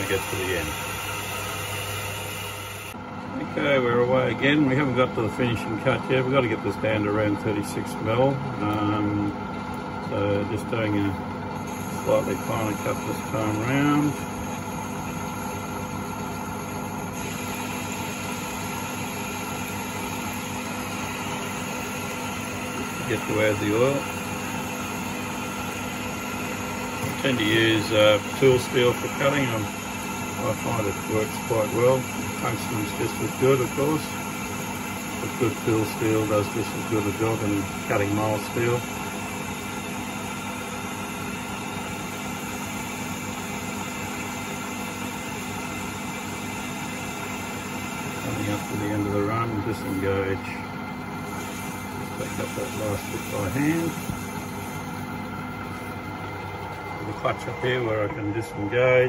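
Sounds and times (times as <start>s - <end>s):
lathe motor humming: 0.0s - 59.0s
cutter skimming steel shaft: 11.6s - 59.0s.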